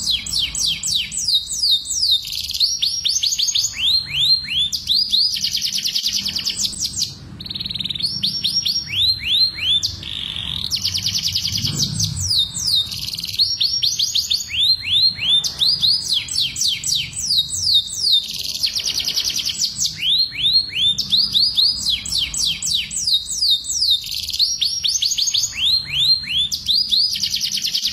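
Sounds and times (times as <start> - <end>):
canaries singing trills: 0.0 - 27.9.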